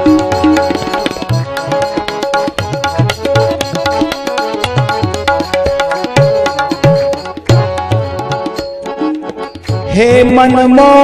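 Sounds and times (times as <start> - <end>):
held melody notes: 0.0 - 11.0
tabla playing rhythm: 0.0 - 11.0.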